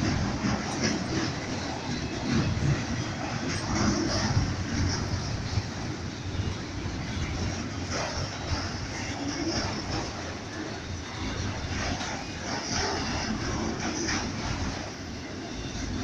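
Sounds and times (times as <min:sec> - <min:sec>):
freight train rumbling: 0:00.0 - 0:16.0
wheels clacking on rails: 0:00.0 - 0:16.0.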